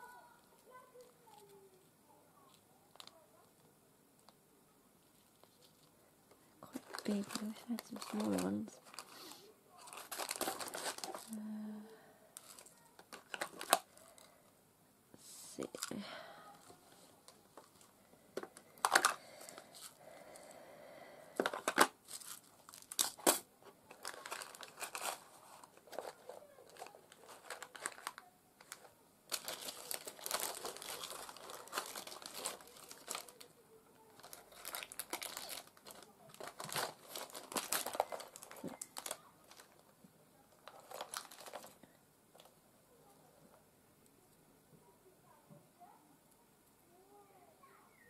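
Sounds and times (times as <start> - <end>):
crinkling and rustling: 0.0 - 4.4, 5.0 - 11.6, 12.4 - 14.4, 15.5 - 20.6, 21.4 - 43.6.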